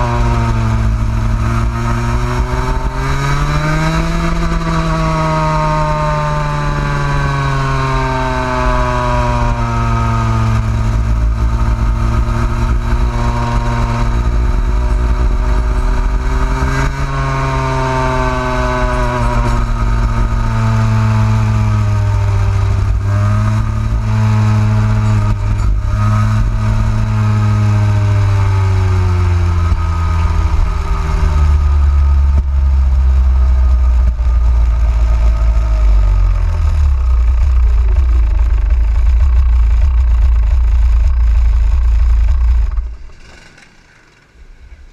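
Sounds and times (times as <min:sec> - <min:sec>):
kart engine slowing down: 0:00.0 - 0:44.9.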